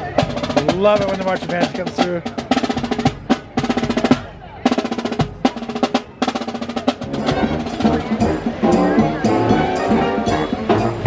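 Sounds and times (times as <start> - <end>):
marching band playing: 0.0 - 11.0
snare drum rolls: 0.0 - 11.0.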